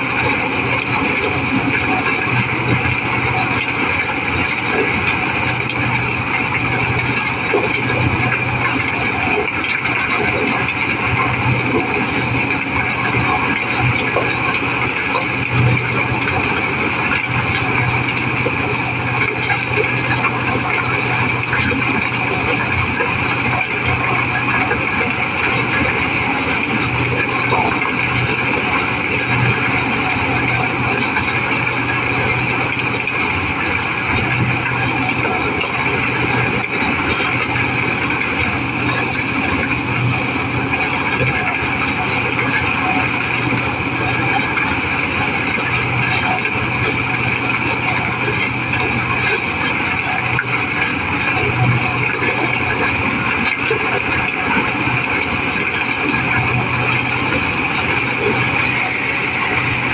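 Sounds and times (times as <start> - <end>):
corn sheller running: 0.0 - 59.9.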